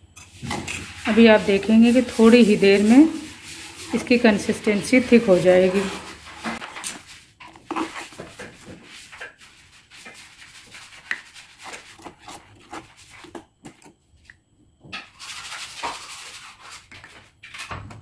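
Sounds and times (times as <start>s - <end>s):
spoon stirring and scraping pan: 0.0s - 13.9s, 14.9s - 17.7s.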